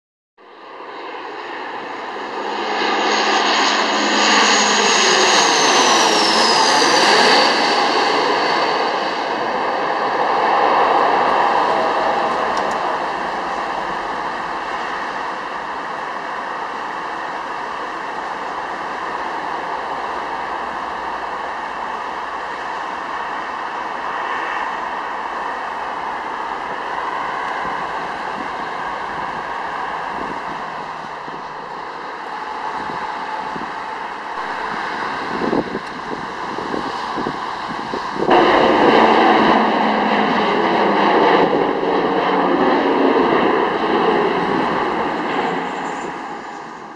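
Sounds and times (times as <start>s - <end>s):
distant turboprop airliner rushing: 0.5s - 46.9s
faint high whining tones: 1.2s - 39.6s.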